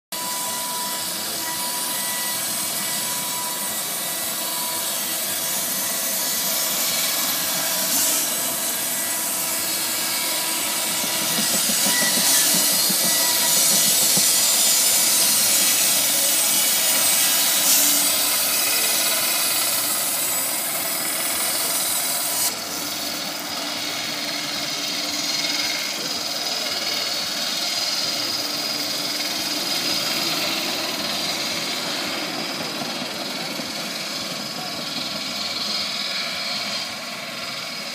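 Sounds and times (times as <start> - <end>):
sawmill engine running: 0.1 - 37.9
band saw blade hissing cut: 0.2 - 37.9.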